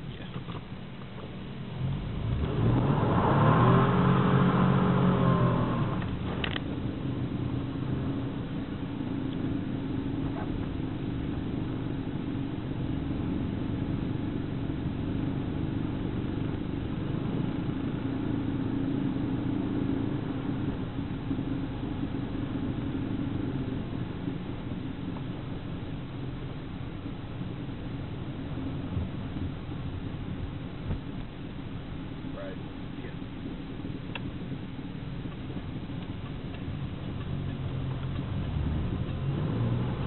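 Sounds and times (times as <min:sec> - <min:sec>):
car engine running: 0:00.0 - 0:40.0
road and tyre noise: 0:00.0 - 0:40.0.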